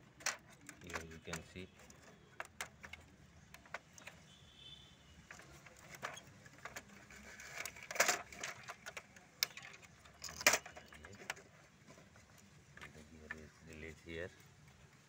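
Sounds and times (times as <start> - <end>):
loud plastic clacks: 0.0 - 4.3, 5.2 - 13.4
plastic clicks and rattles: 0.0 - 4.3, 5.2 - 13.8.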